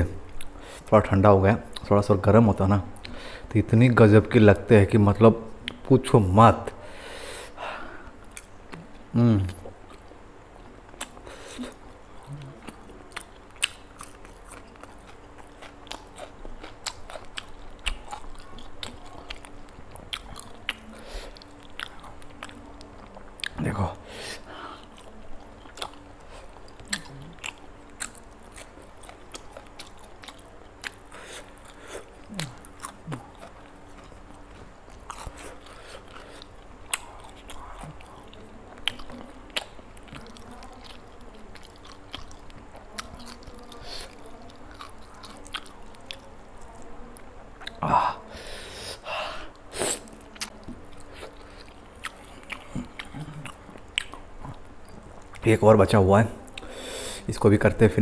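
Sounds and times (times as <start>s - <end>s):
person chewing food: 0.2s - 0.9s, 7.4s - 55.5s, 56.4s - 57.0s.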